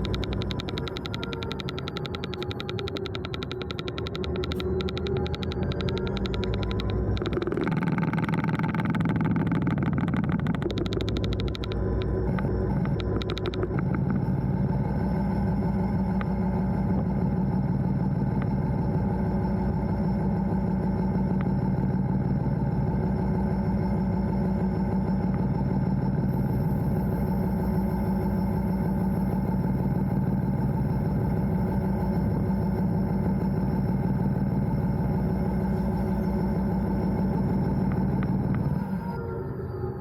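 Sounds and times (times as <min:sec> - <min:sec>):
diesel locomotive engine running: 0:00.0 - 0:40.0.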